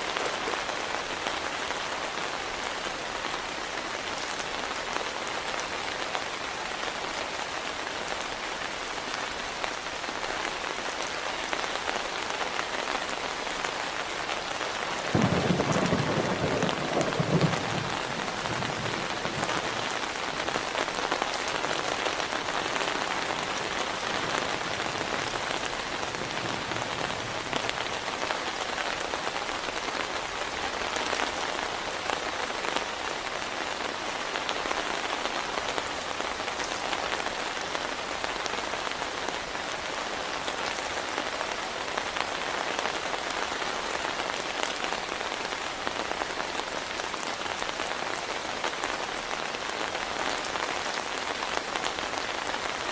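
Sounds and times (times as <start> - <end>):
heavy rain pattering: 0.0 - 52.9.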